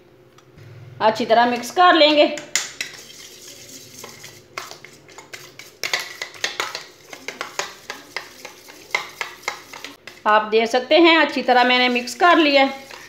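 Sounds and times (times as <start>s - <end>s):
spoon beating eggs in metal bowl: 1.4s - 13.0s.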